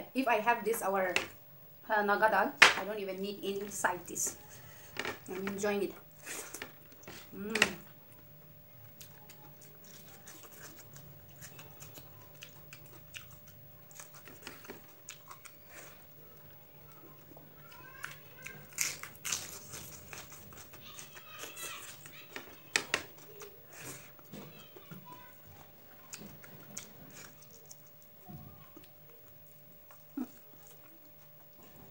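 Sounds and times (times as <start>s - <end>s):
steady low hum: 0.0s - 31.9s
person chewing food: 6.1s - 31.9s.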